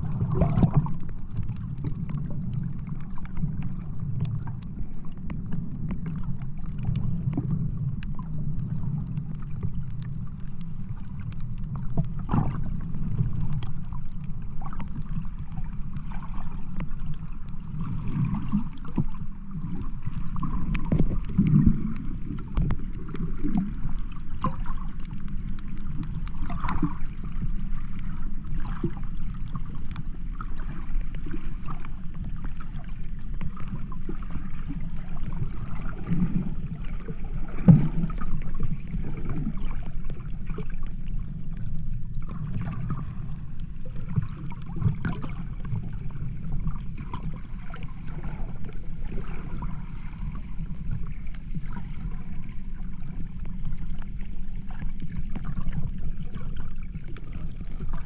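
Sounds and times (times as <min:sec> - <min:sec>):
sea water sloshing and splashing: 0:00.0 - 0:58.0
steady low rumble: 0:00.0 - 0:58.0.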